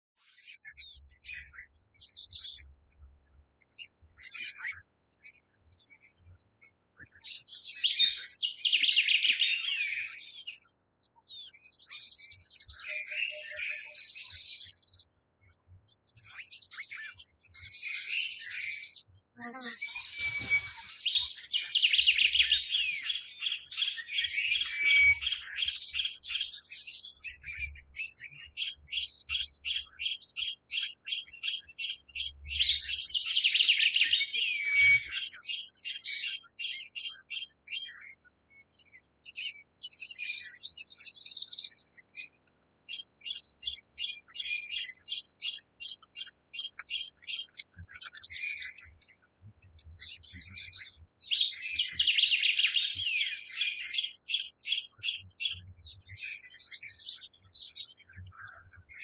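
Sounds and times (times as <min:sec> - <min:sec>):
small birds chirping: 0:00.2 - 0:59.0.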